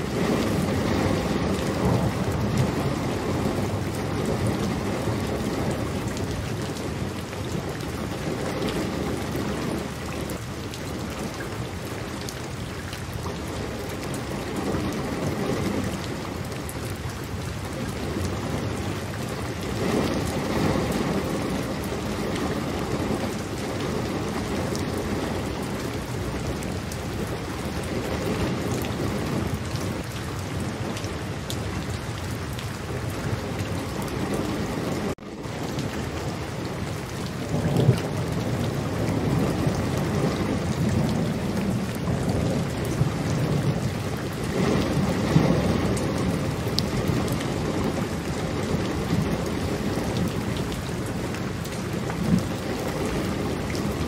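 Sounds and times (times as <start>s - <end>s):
low rolling thunder: 0.0s - 12.3s, 13.3s - 54.0s
steady rain falling: 0.0s - 54.0s.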